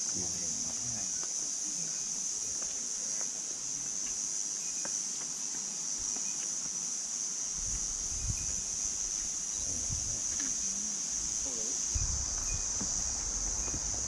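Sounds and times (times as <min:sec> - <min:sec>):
insects chorus drone: 0:00.0 - 0:14.0.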